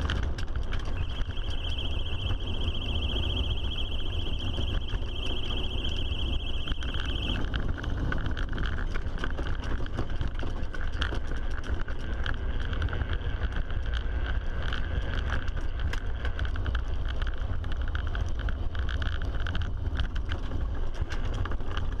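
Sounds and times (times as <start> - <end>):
rumble of wind and tyres: 0.0 - 22.0.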